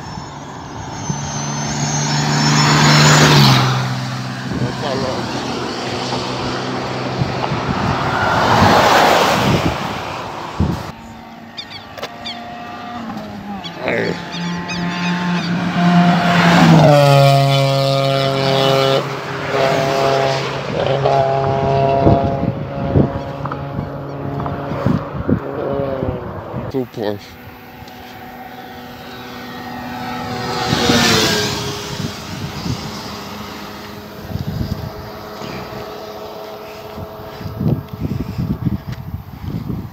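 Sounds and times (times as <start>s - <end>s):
coach engine and tyre noise: 0.0s - 39.9s
motorcycle passing: 0.0s - 39.9s
roadside background noise: 0.0s - 39.9s.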